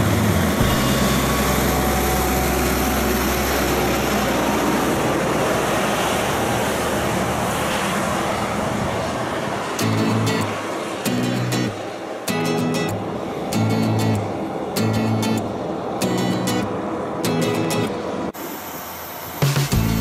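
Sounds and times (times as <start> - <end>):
road and wind noise: 0.0 - 20.0
truck engine drone: 0.0 - 20.0.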